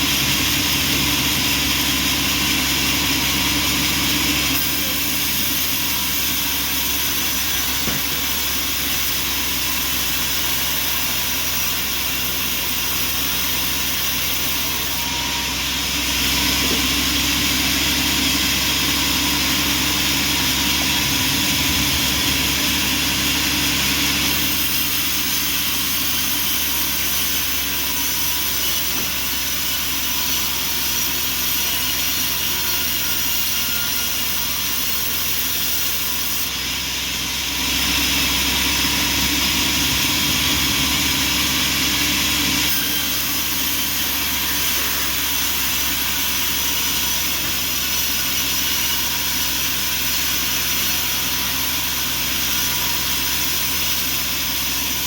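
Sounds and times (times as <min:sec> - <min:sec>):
sawmill machinery droning: 0:00.0 - 0:55.0.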